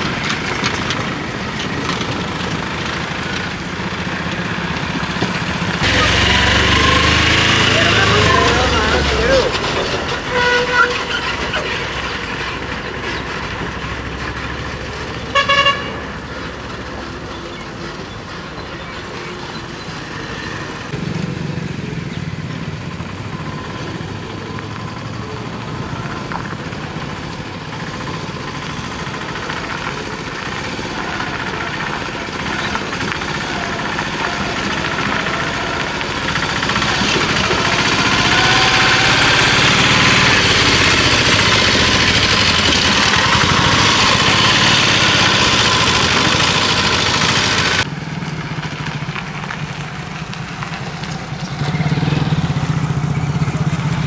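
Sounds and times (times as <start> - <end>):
small vehicle engines in traffic: 0.0 - 54.0.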